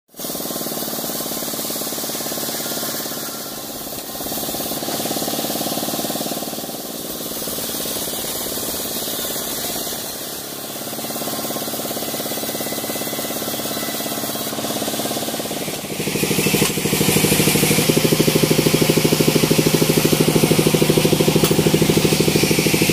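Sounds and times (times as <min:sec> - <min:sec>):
band saw cutting log: 0:00.1 - 0:22.9.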